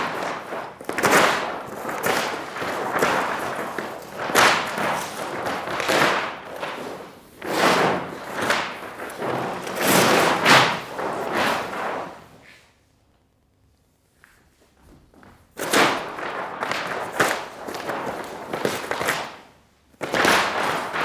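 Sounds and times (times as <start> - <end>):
paper rustling and crackling: 0.0 - 12.4, 15.4 - 21.0.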